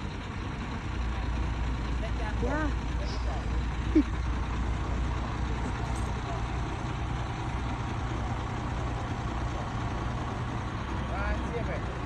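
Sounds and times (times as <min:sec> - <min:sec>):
heavy vehicle engine rumble: 0:00.0 - 0:12.0.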